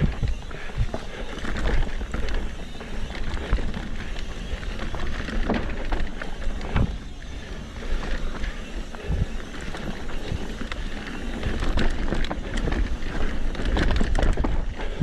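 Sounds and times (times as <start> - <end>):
bike knocks and rattles: 0.0 - 15.0
low rumble of bike riding: 0.0 - 15.0
wind buffeting microphone: 0.0 - 15.0.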